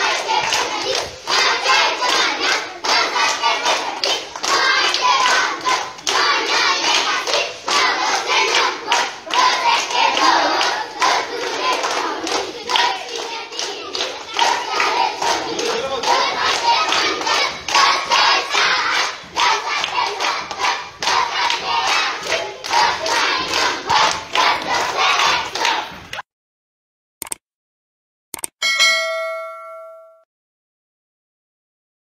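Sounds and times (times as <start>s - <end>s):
children singing a chant: 0.0s - 26.0s
hands clapping: 0.0s - 26.2s.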